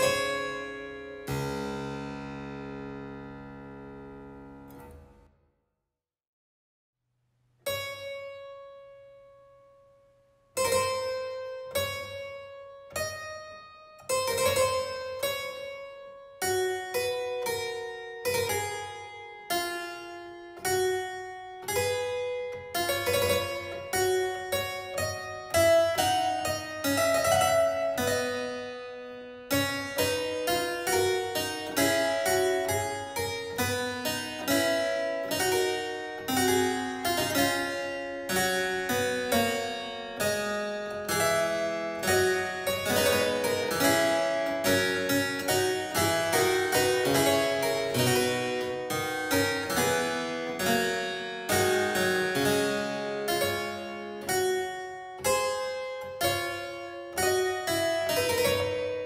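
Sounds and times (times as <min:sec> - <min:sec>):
solo harpsichord playing: 0:00.0 - 0:05.3, 0:07.7 - 0:09.4, 0:10.6 - 0:59.0.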